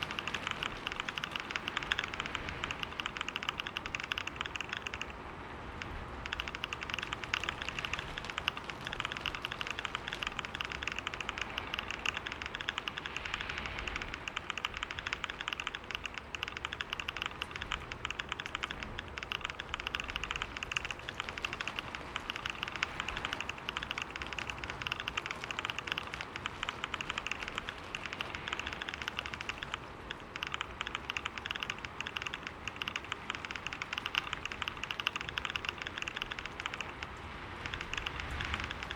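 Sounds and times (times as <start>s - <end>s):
fast keyboard typing: 0.0s - 5.2s, 5.8s - 38.9s.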